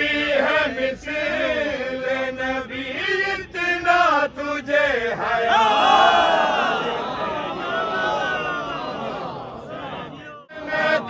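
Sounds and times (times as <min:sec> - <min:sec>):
men chanting devotional poem: 0:00.0 - 0:11.0.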